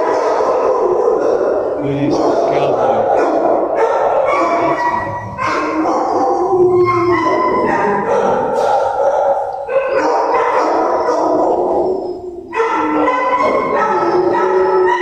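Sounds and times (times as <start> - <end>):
dogs barking and howling: 0.0 - 15.0.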